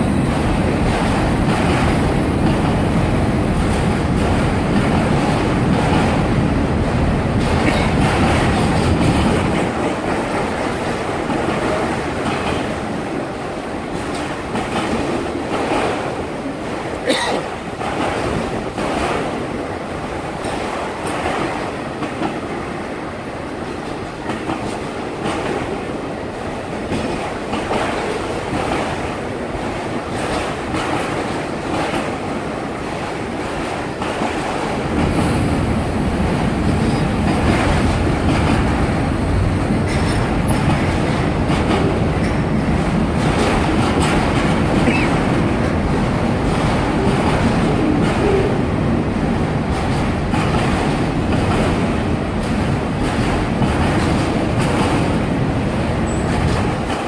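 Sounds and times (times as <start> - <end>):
freight train wheels clicking: 0.0 - 57.0
train low rumble: 0.0 - 57.0.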